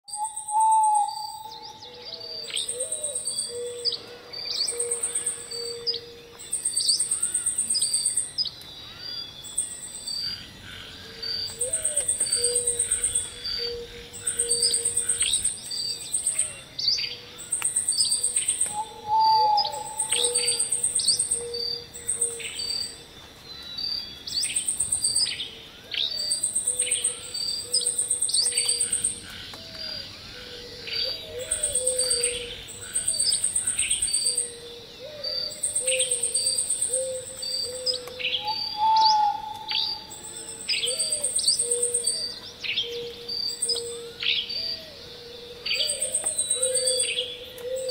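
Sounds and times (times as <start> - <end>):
birds chirping and calling: 0.1 - 47.9.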